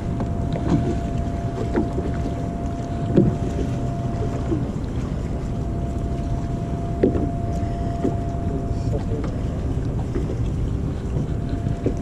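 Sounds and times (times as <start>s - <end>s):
faint steady whine: 0.0s - 12.0s
wind rumbling on microphone: 0.0s - 12.0s.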